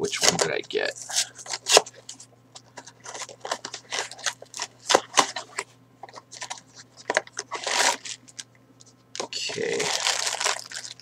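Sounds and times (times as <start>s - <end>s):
faint electrical hum: 0.0s - 11.0s
packaging rustling and crinkling: 1.3s - 8.4s, 9.2s - 11.0s.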